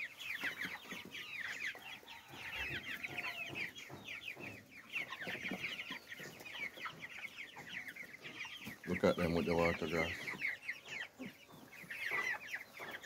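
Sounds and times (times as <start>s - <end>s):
chickens peeping: 0.0s - 13.0s.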